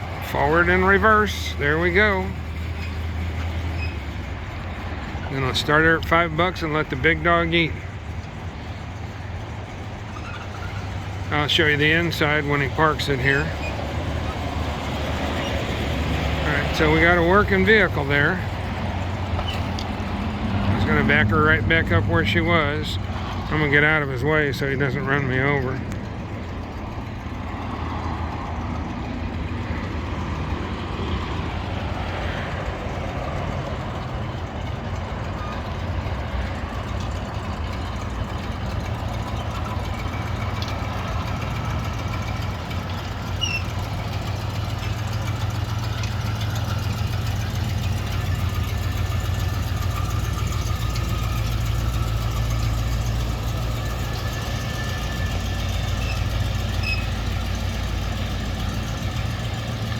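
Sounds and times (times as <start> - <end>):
engine running at low speed: 0.0 - 59.9.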